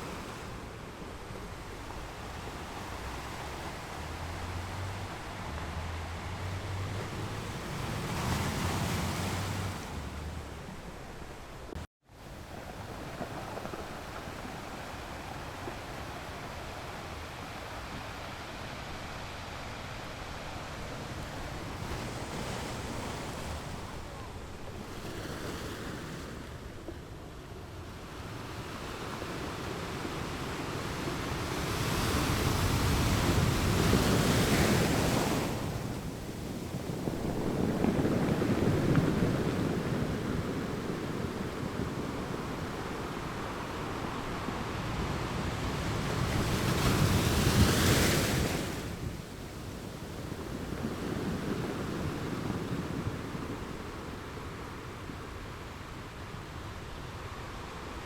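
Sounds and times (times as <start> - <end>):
ocean waves breaking on rocks: 0.0 - 11.7, 12.3 - 27.1, 27.7 - 58.0
wind noise: 0.0 - 58.0.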